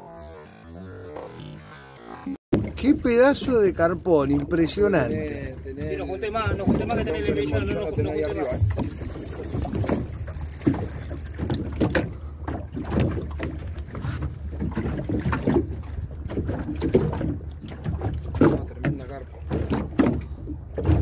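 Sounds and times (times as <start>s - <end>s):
water lapping and splashing: 0.0s - 21.0s.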